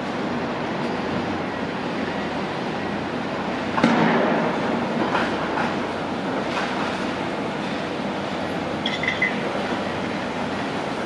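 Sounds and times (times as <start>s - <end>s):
heavy construction machinery running: 0.0s - 11.0s.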